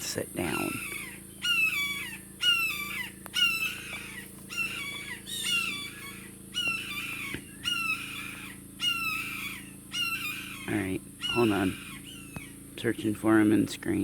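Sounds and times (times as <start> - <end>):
jays giving harsh scolding calls: 0.0 - 13.0.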